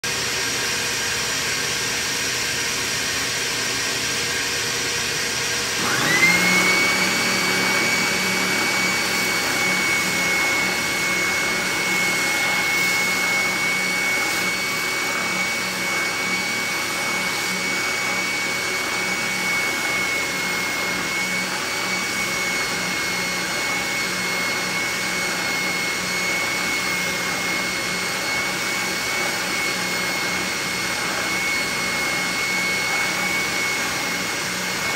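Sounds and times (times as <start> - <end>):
sander motor whine: 0.0 - 34.9
shop vacuum running: 0.0 - 34.9.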